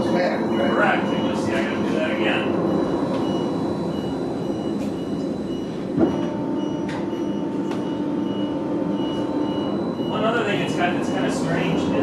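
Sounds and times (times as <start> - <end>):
high warning beep: 0.0 - 12.0
steady high tone: 0.0 - 12.0
trolleybus cabin rumble: 0.0 - 12.0.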